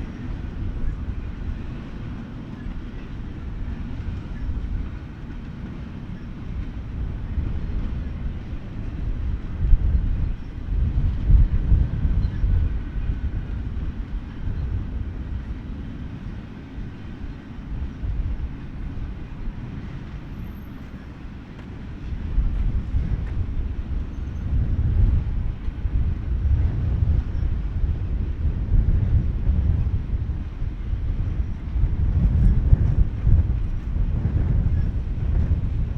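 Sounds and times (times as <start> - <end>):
freight train cars rolling: 0.0 - 35.9.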